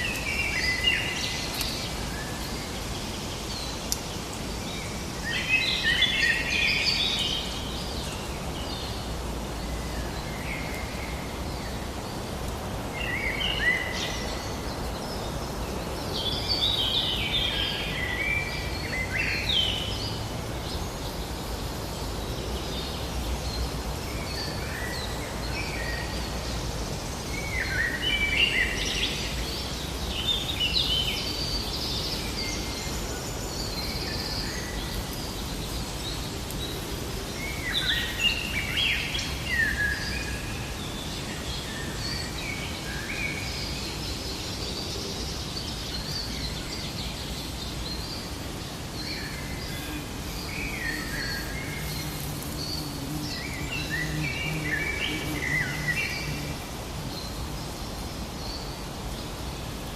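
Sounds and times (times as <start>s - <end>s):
songbirds warbling: 0.0s - 59.9s.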